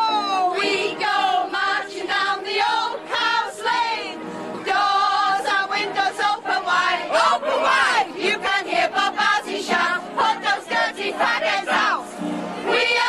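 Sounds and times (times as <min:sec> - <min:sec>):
girls and women singing together: 0:00.0 - 0:13.0.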